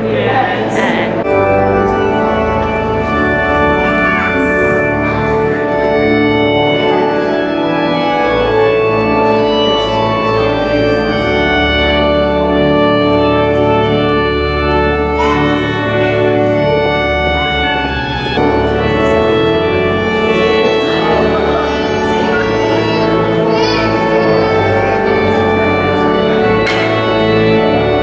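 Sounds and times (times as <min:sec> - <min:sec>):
church organ chords: 0:00.0 - 0:28.0.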